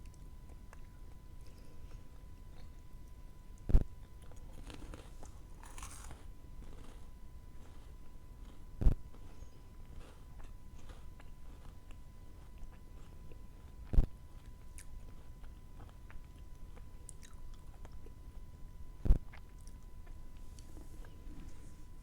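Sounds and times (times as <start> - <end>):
chewing wafer: 0.0 - 22.0.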